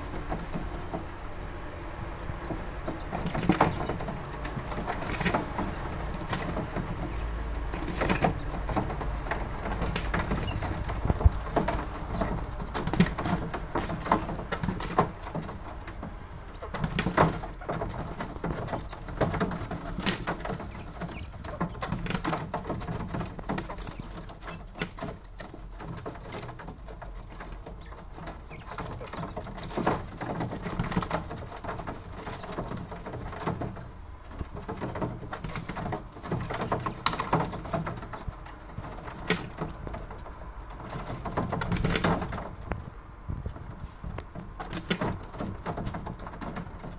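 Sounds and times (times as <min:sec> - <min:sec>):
birds pecking on wire mesh: 0:00.0 - 0:46.9.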